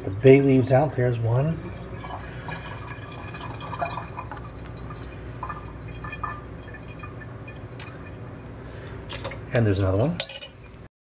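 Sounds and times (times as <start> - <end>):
broth dripping and splashing: 0.0 - 9.6, 10.5 - 10.9
ladle stirring soup: 0.0 - 9.6
steady low hum: 0.0 - 10.9.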